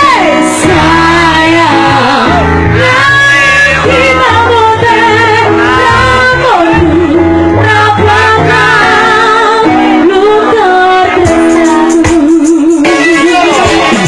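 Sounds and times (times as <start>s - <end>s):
band bass and keyboard: 0.0s - 14.0s
woman singing into microphone: 0.0s - 14.0s.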